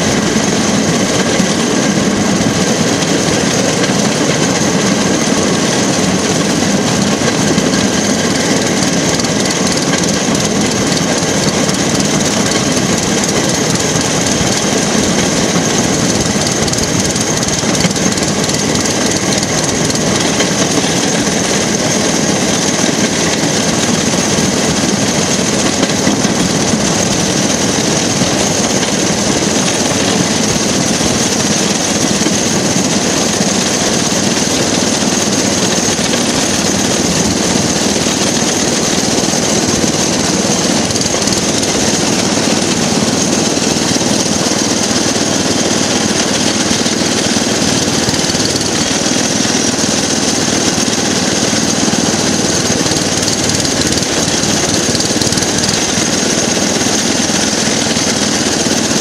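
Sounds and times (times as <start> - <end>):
rail car engine: 0.0 - 59.0
wheels rolling on rails: 0.0 - 59.0.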